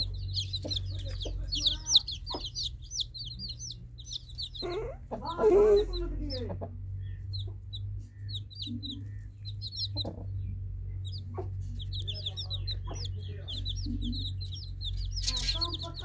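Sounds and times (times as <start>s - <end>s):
chicks peeping: 0.0s - 16.0s
steady low hum: 0.0s - 16.0s.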